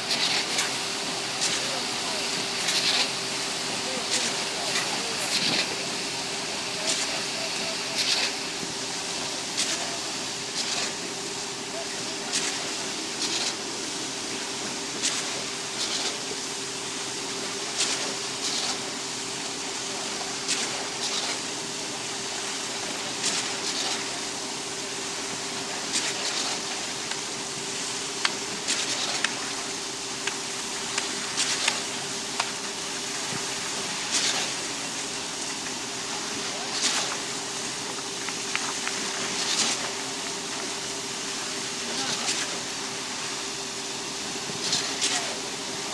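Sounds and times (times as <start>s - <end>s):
concrete pump humming: 0.0s - 45.9s.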